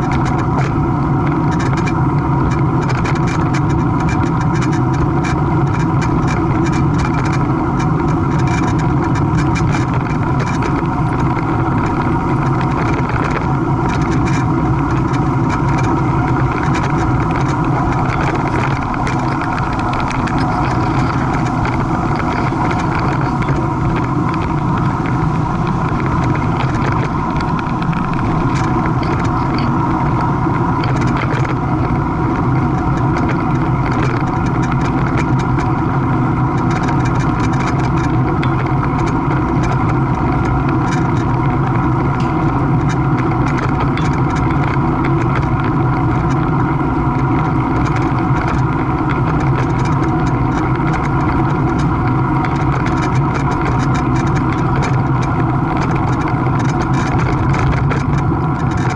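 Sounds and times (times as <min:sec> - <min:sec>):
steady engine drone: 0:00.0 - 0:58.9.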